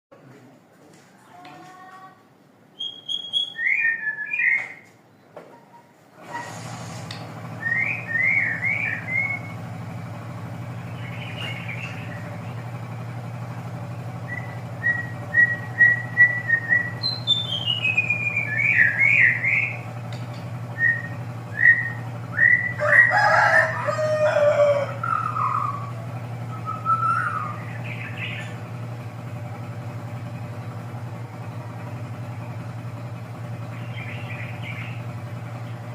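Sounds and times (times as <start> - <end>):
birds chirping: 2.7 - 6.5, 7.3 - 35.9
louder fuller bird call: 2.8 - 4.9, 6.3 - 20.0, 20.6 - 35.9.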